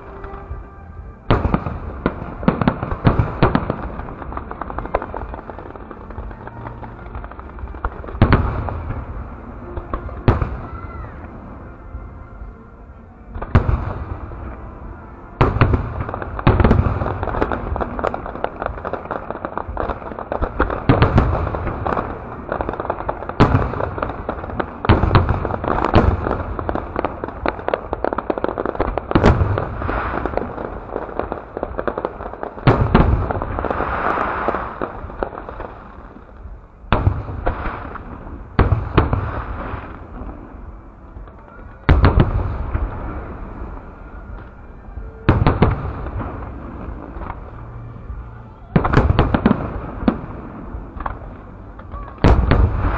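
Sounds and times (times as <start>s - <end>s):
fireworks booming: 0.0s - 52.9s
fireworks crackling: 0.0s - 52.9s.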